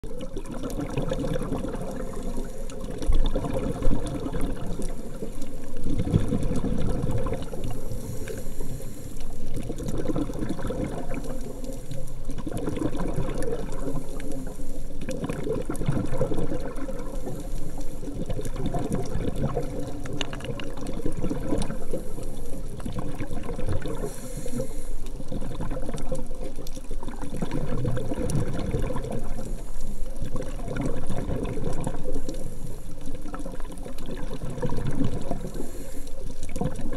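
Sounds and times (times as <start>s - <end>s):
muffled underwater rush: 0.0s - 36.9s.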